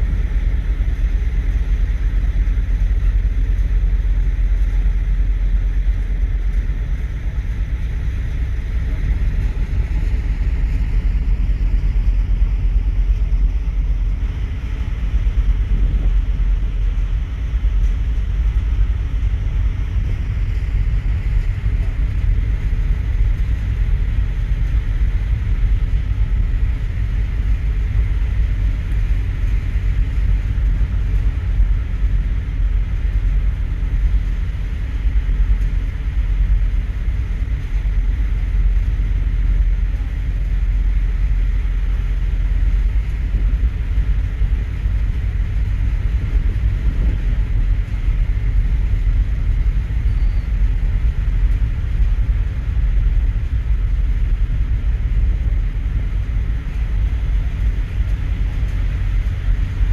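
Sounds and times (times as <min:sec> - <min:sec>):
ship engines rumbling: 0:00.0 - 0:59.9.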